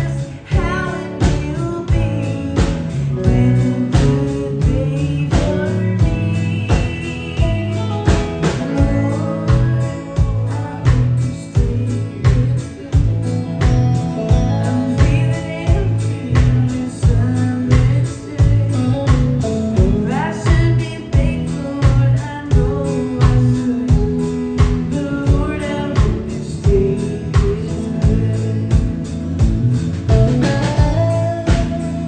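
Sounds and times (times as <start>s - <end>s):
acoustic guitar: 0.0s - 32.0s
drum kit beat: 0.0s - 32.0s
electric bass: 0.0s - 32.0s
woman singing: 0.0s - 32.0s.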